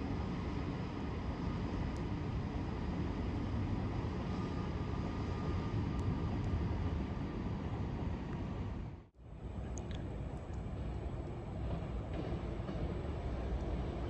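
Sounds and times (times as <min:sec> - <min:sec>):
distant electric train passing: 0:00.0 - 0:08.7, 0:09.3 - 0:14.0.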